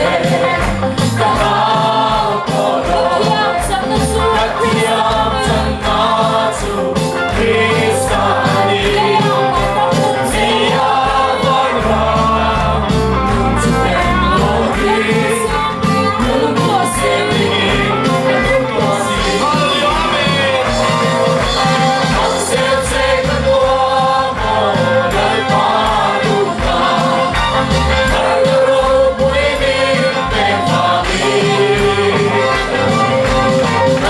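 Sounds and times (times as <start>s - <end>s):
band playing: 0.0s - 34.0s
bass: 0.0s - 34.0s
group singing gospel song: 0.0s - 34.0s
steady drum beat: 0.0s - 34.0s.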